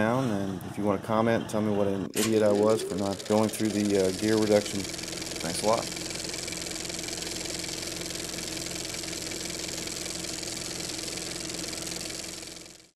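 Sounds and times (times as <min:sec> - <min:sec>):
engine idling: 0:02.4 - 0:12.9.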